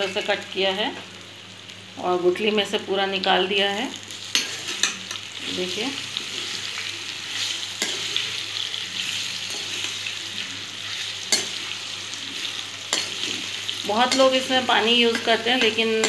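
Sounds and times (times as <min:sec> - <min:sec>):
slices sizzling in hot oil: 0:00.0 - 0:16.0.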